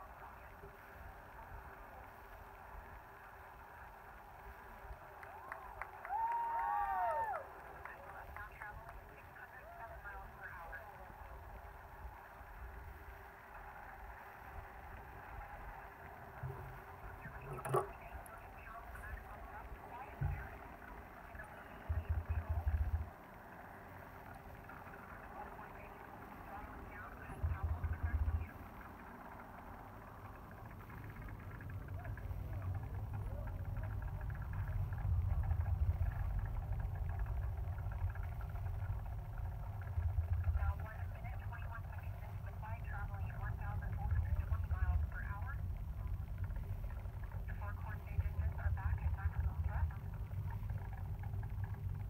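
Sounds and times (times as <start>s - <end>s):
distant rocket launch rumble: 0.0s - 52.0s.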